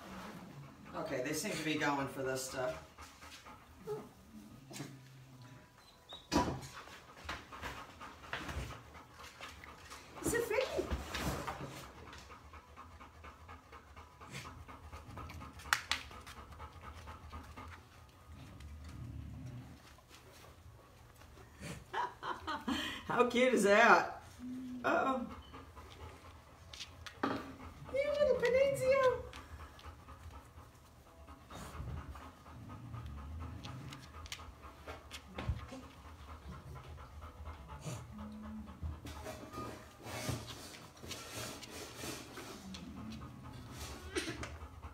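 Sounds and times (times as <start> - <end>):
puppies panting: 0.0 - 44.9.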